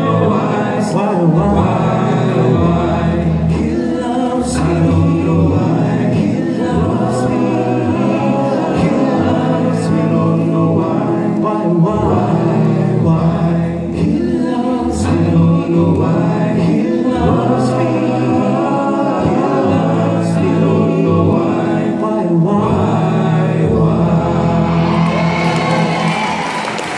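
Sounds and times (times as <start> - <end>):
a cappella group singing gospel: 0.0 - 26.9.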